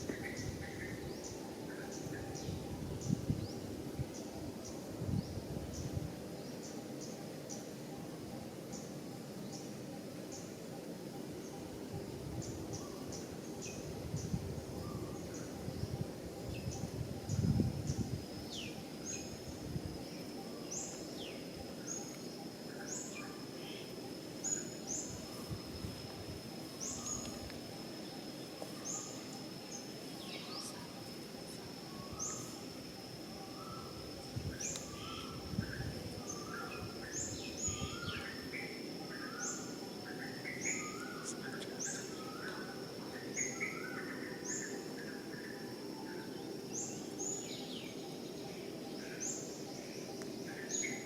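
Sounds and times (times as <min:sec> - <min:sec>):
high-pitched insect whine: 0:00.0 - 0:51.0.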